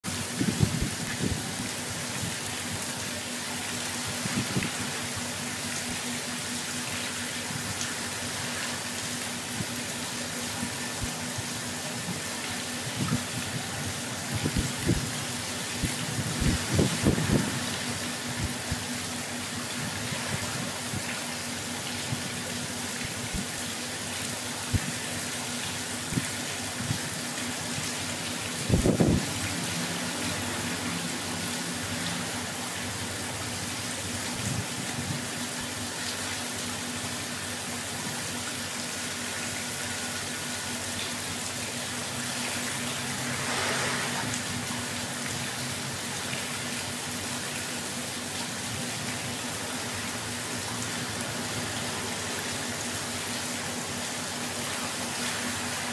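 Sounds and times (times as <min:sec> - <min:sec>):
fountain water splashing: 0:00.0 - 0:55.9.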